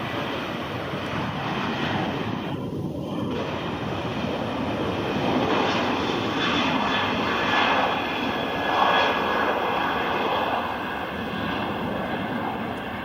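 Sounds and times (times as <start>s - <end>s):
jet engines roaring with whine: 0.0s - 13.0s.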